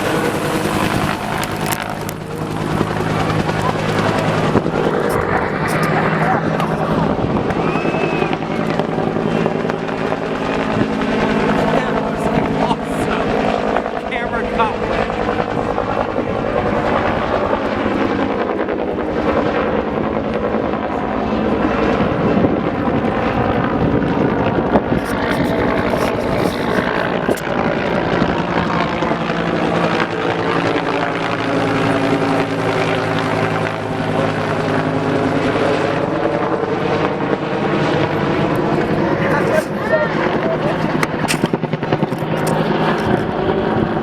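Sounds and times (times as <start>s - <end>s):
helicopter rotor chop and turbine: 0.0s - 44.0s.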